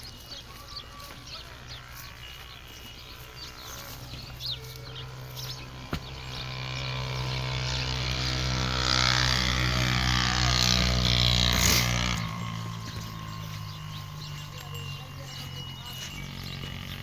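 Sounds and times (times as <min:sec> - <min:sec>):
motor engine running: 0:00.0 - 0:17.0.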